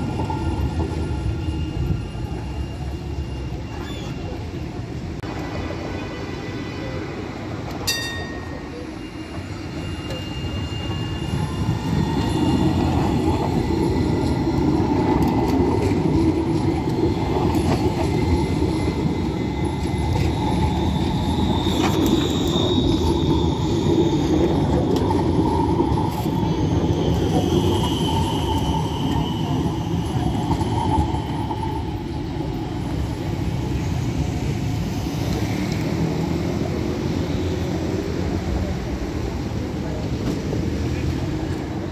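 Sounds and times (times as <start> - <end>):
tram wheels rumbling on rail: 0.0 - 41.9
wheels squealing on rails: 0.0 - 41.9.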